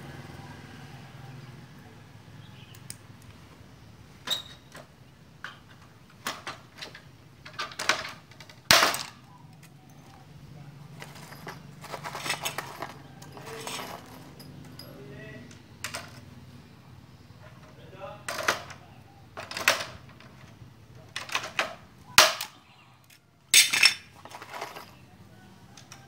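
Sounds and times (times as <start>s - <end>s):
light clinking and rattling: 4.2s - 16.4s, 17.3s - 26.0s.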